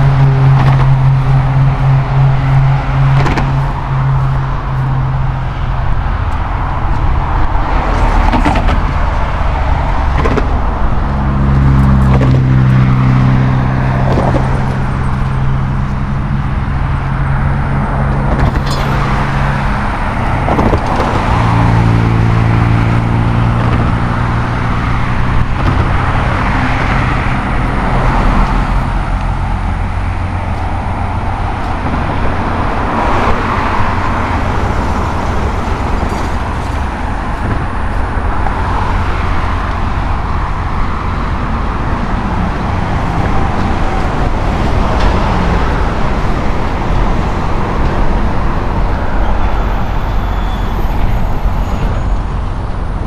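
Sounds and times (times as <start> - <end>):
road traffic passing: 0.0 - 53.0
vehicle engine humming: 0.0 - 53.0.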